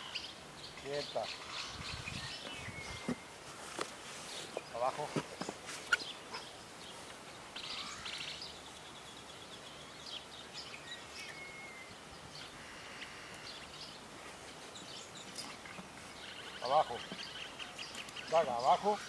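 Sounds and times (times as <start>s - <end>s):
small birds chirping: 0.0s - 19.0s
steady background hiss: 0.0s - 19.0s.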